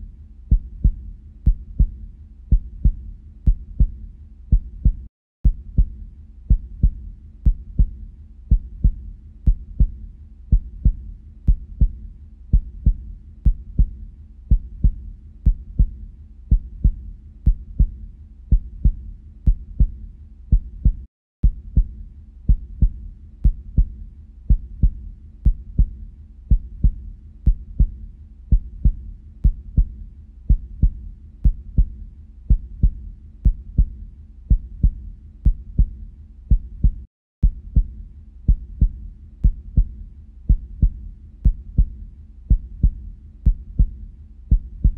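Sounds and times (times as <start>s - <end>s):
heartbeat thumps: 0.0s - 44.9s.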